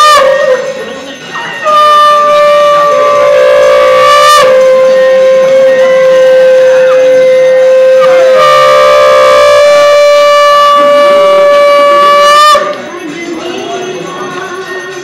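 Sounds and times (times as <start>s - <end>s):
conch shell blown: 0.0s - 12.9s.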